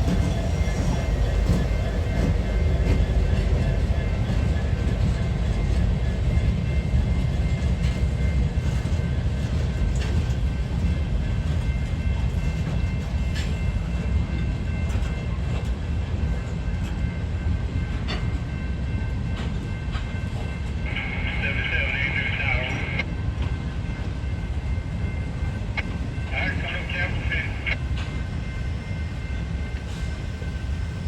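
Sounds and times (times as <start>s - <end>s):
train cars rumbling on rails: 0.0s - 31.0s.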